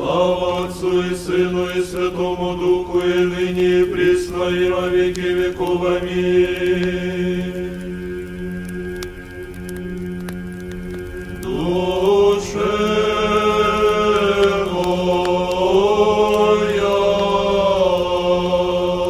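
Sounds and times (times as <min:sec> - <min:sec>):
sung chant: 0:00.0 - 0:09.0, 0:11.4 - 0:19.0
low drone: 0:00.0 - 0:19.0.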